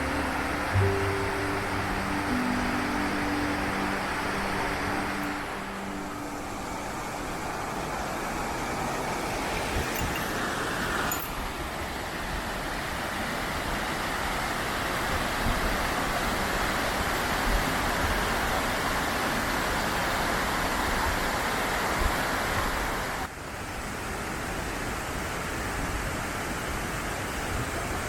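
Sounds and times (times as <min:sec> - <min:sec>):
stream rushing: 0:00.0 - 0:28.0.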